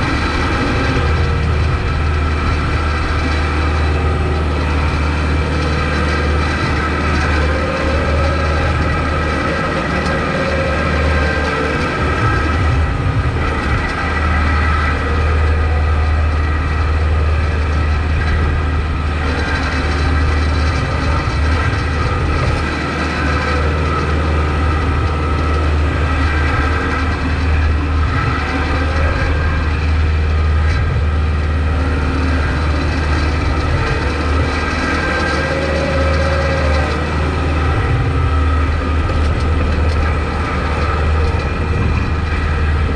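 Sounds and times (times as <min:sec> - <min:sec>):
faint whine: 0:00.0 - 0:42.9
tractor diesel engine droning: 0:00.0 - 0:42.9.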